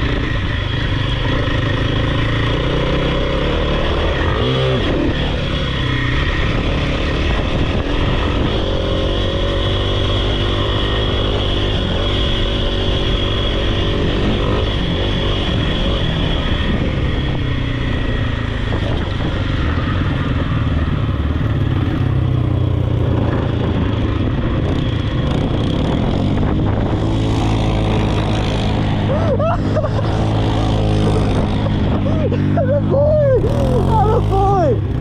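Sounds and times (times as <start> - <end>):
off-road vehicle engine running: 0.0 - 35.0.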